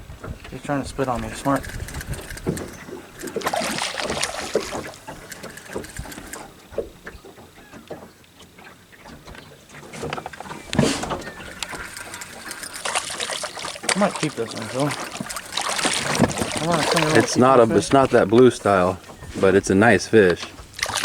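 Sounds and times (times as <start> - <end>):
knocks and scuffs in a boat: 0.0 - 21.0.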